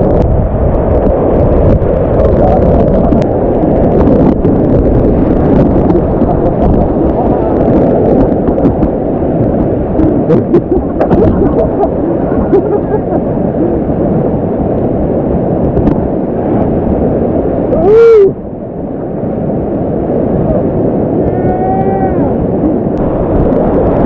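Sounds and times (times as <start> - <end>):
whitewater rushing: 0.1 - 24.0.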